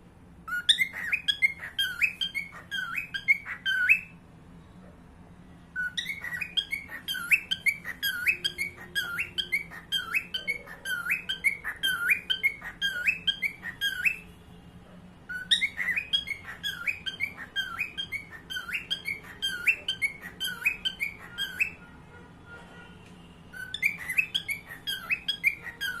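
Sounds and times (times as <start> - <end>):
cockatiel chirp-whistles: 0.5 - 4.1, 5.8 - 14.3, 15.3 - 21.9, 23.5 - 26.0.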